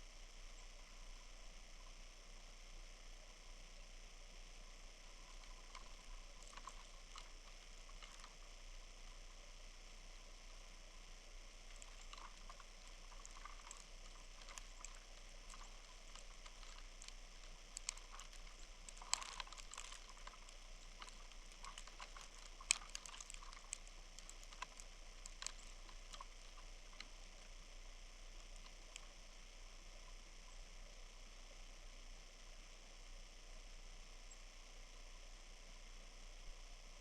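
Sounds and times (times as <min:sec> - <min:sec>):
faint steady hiss: 0:00.0 - 0:37.0
small clicks and ticks: 0:00.0 - 0:37.0.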